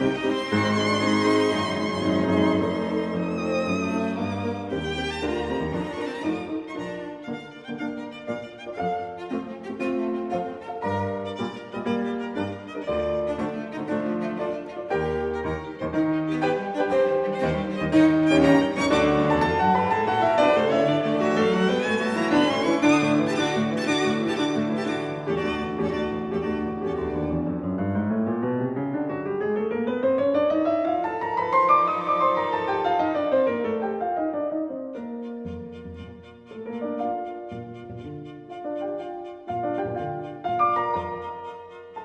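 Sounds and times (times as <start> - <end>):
bowed strings: 0.0 - 27.7, 30.9 - 34.2, 34.9 - 42.0
violin melody: 0.0 - 28.1, 30.5 - 42.0
piano: 0.0 - 42.0.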